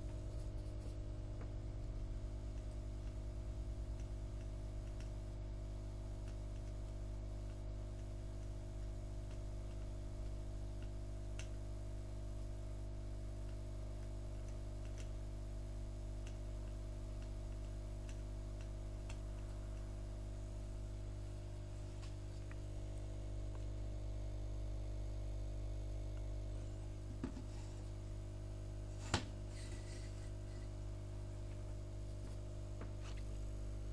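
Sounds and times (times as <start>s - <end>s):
low electrical hum: 0.0s - 33.9s.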